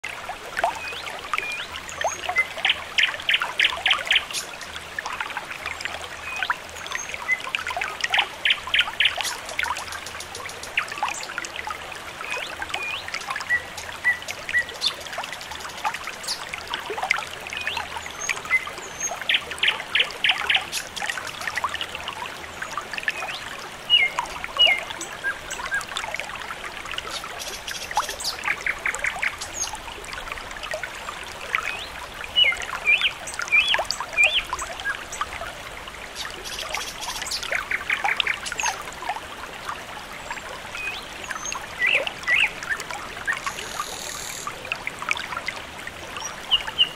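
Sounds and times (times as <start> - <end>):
water trickling: 0.0 - 46.9.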